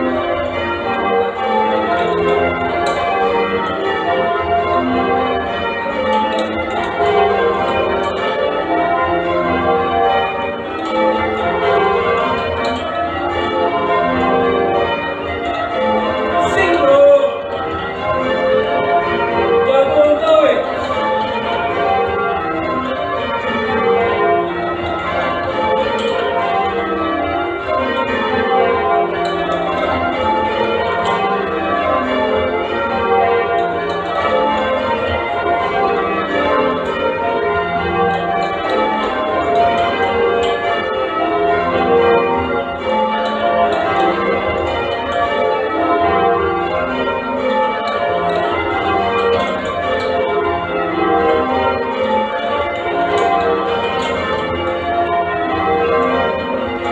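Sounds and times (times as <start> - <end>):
church bells change ringing: 0.0 - 56.9.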